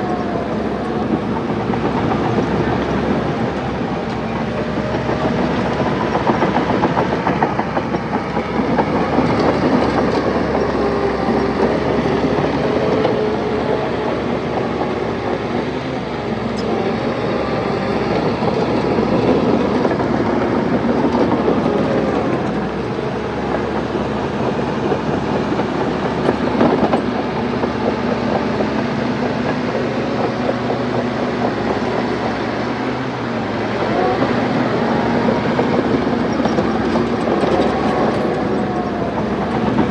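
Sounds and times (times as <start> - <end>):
bulldozer diesel engine: 0.0 - 39.9
steel tracks clanking: 0.0 - 39.9.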